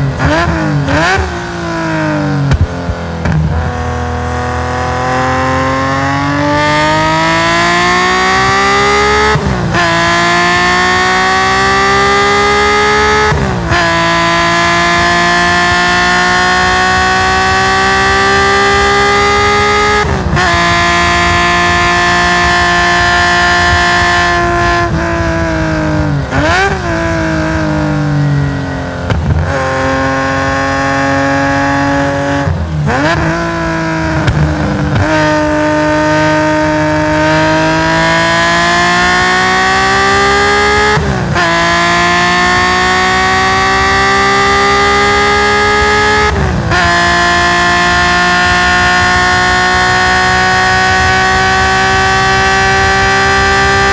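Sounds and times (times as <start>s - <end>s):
blipped downshifts: 0.0s - 53.9s
race car engine revving: 0.0s - 53.9s.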